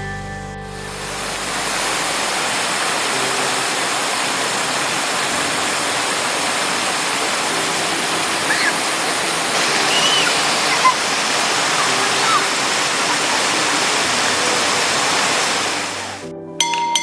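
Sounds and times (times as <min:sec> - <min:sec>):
waterfall rushing: 0:00.8 - 0:16.2.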